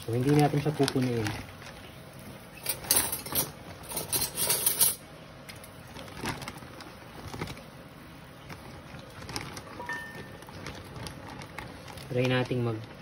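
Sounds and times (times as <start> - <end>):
plastic bag rustling: 0.0 - 4.8, 5.5 - 13.0.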